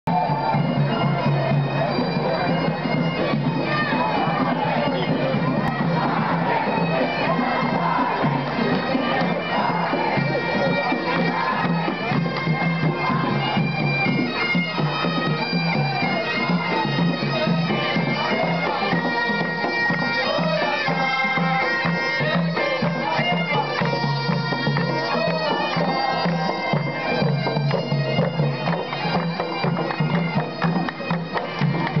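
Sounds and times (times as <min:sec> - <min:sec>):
bagpipes playing over drone: 0:00.1 - 0:32.0.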